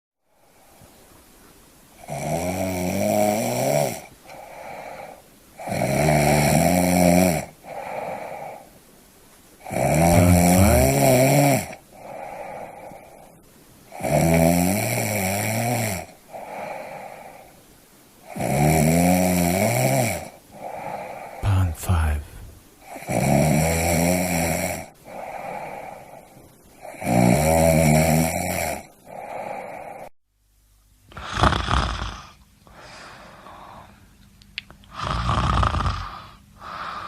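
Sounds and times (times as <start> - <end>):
person snoring: 2.0 - 8.6, 9.6 - 13.3, 13.9 - 17.5, 18.3 - 30.1, 31.1 - 34.0, 34.9 - 37.0.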